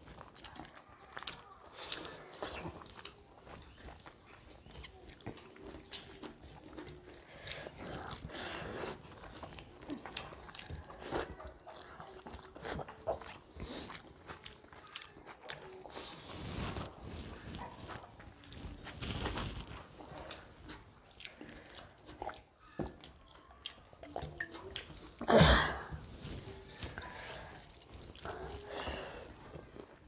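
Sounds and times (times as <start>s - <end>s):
chewing and wet mouth sounds: 0.0s - 30.0s.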